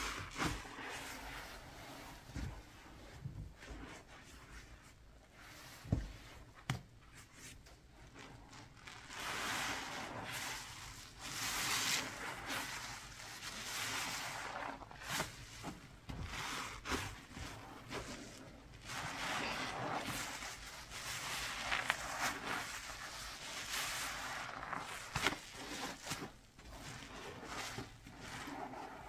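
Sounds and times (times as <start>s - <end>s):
hand rubbing wet paste: 0.0s - 29.0s.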